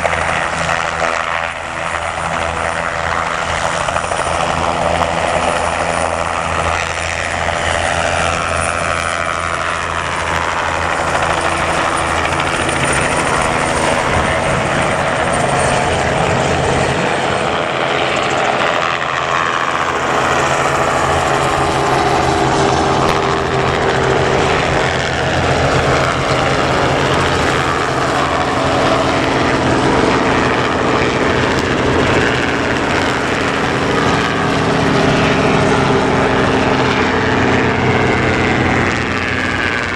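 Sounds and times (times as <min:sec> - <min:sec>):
helicopters flying low: 0:00.0 - 0:39.9.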